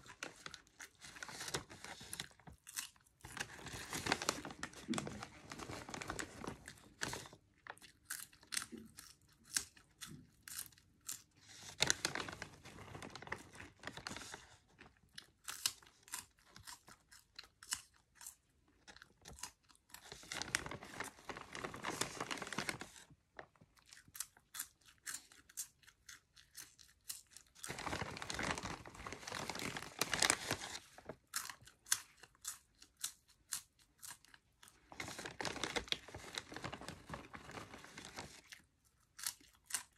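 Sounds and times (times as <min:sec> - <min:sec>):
crunching and chewing popcorn: 0:00.0 - 0:39.9.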